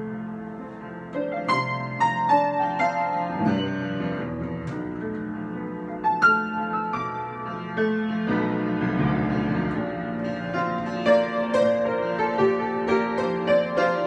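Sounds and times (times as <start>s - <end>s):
piano chords and melody: 0.0s - 14.0s.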